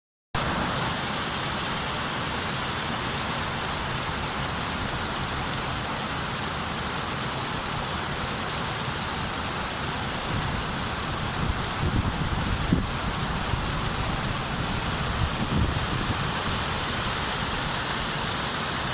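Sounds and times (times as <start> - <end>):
waterfall roar: 0.4 - 18.9.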